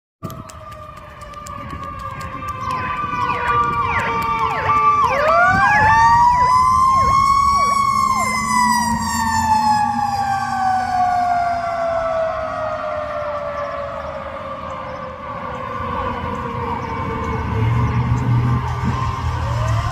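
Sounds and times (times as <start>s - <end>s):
electronic yelp siren: 0.2s - 19.9s
mechanical siren wail: 0.2s - 19.9s.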